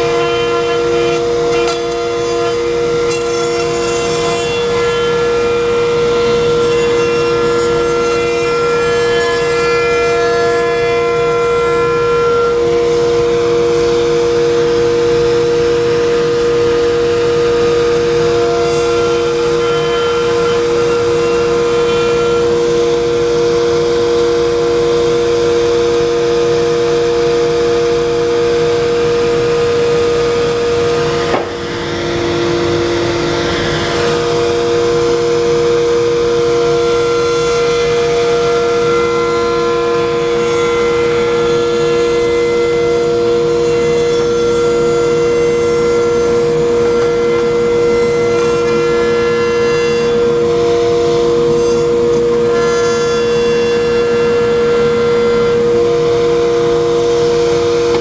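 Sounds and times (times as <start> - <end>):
router cutting wood: 0.0 - 58.0
wood router whining: 0.0 - 58.0.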